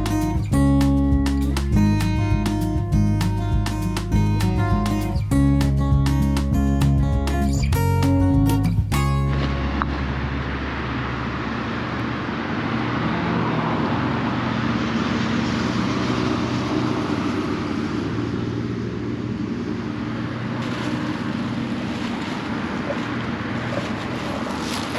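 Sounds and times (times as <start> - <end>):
motor engine humming: 0.0 - 24.7.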